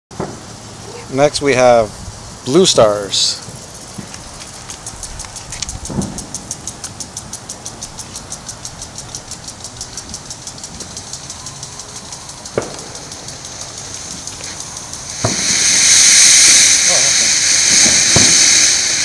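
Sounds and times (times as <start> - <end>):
firework fountain hissing sparks: 0.1 - 19.0
fast high-pitched ticking: 2.5 - 19.0.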